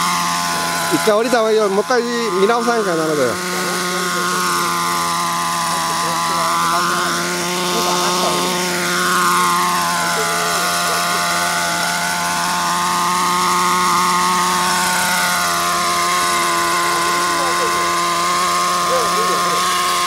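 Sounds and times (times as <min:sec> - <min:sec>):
model helicopter engine and rotor: 0:00.0 - 0:20.0.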